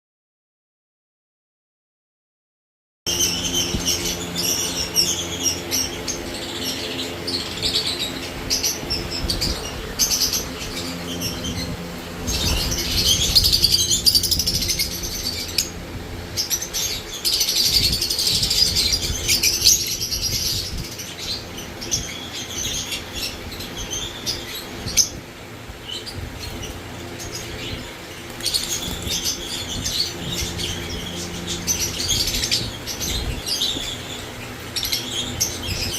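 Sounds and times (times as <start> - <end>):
lovebirds chattering and chirping: 3.1 - 35.9
steady low hum: 3.1 - 35.9.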